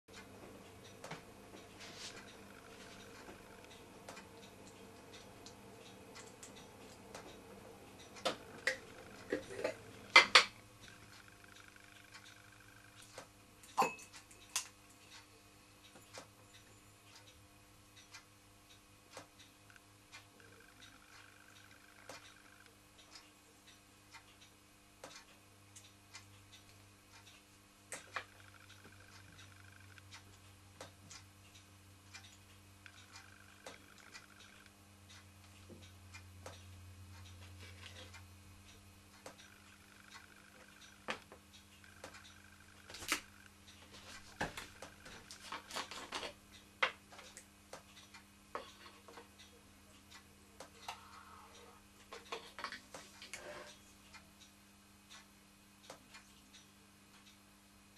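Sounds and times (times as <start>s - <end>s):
faint low hum: 0.1s - 57.9s.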